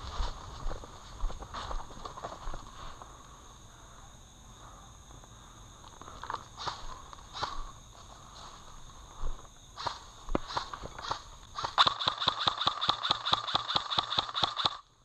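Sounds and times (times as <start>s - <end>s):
high drone of insects: 0.0s - 15.0s.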